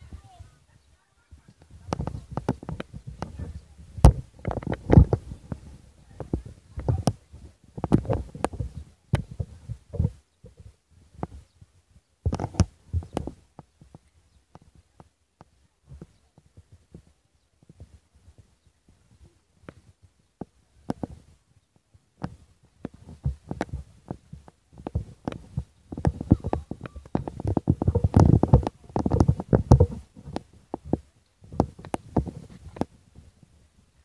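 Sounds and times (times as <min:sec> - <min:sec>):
rumbling and knocking on microphone: 0:01.3 - 0:33.4.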